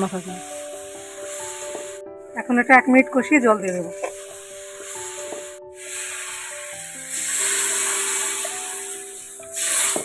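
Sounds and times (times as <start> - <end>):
soft background music: 0.0 - 10.0
vegetables sizzling in a pan: 0.0 - 10.0
water hissing in hot pan: 0.0 - 10.0.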